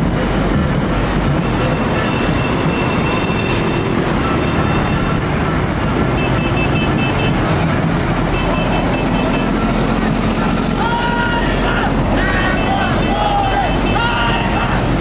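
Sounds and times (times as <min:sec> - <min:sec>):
vehicles rumbling: 0:00.0 - 0:15.0.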